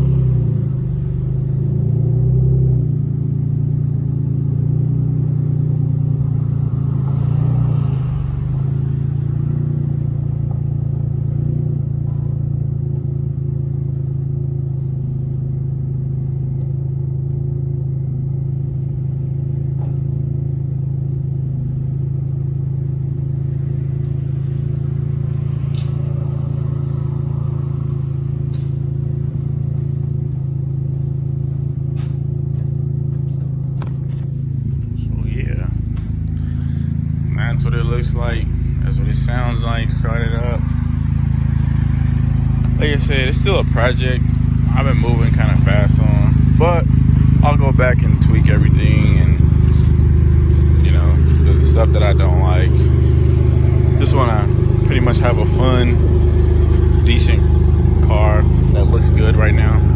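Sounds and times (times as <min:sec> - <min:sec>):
car engine idling with exhaust leak: 0:00.0 - 0:59.9.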